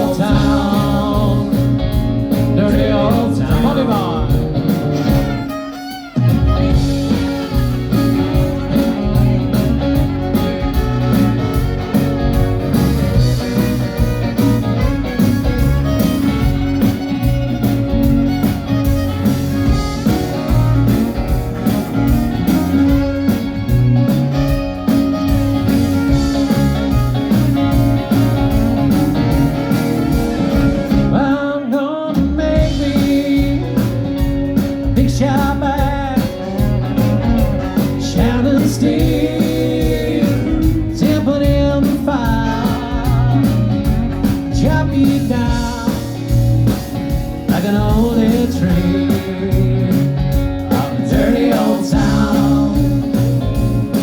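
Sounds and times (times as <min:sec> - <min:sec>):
live band playing: 0:00.0 - 0:54.0.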